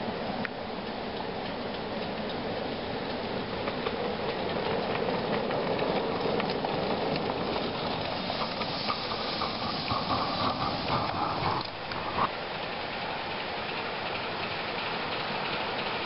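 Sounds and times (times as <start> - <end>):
steam hissing: 1.3 - 16.0.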